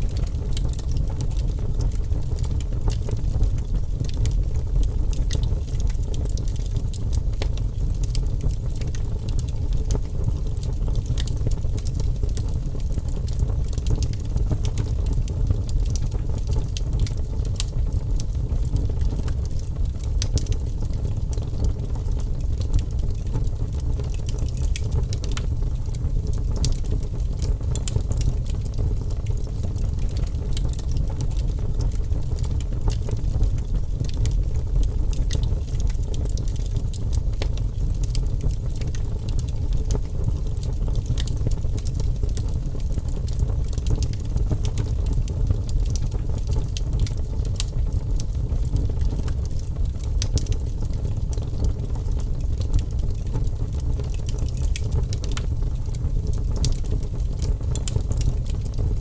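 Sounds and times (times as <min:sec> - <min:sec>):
burning logs crackling and popping: 0:00.0 - 0:59.0
fire flames roaring: 0:00.1 - 0:59.0.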